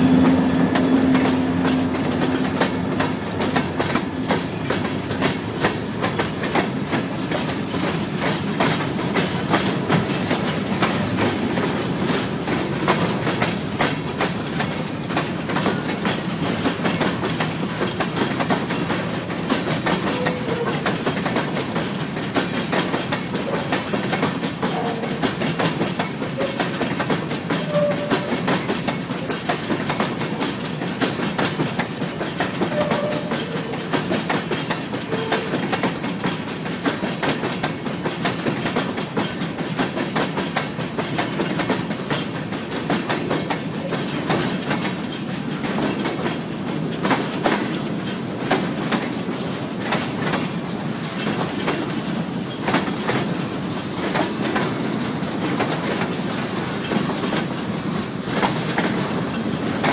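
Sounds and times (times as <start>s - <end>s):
freight train wheels clickety-clack: 0.0s - 59.9s.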